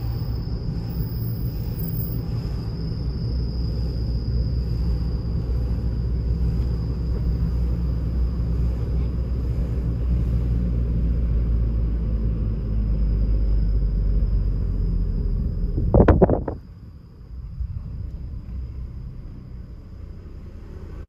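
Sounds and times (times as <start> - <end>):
thin high whine: 0.0 - 18.2
car road and engine rumble: 0.0 - 21.0.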